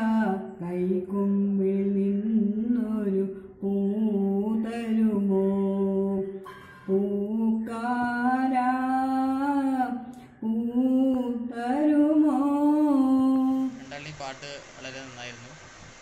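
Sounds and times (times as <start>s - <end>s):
woman singing solo: 0.0s - 13.8s.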